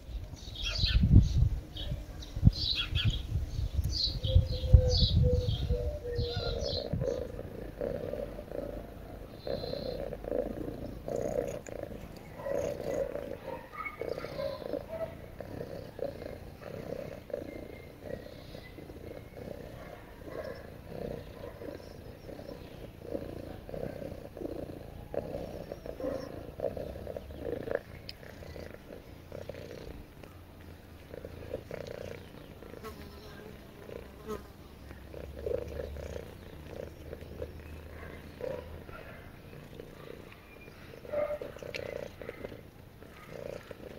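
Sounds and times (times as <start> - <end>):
cat purring: 5.6 - 43.9.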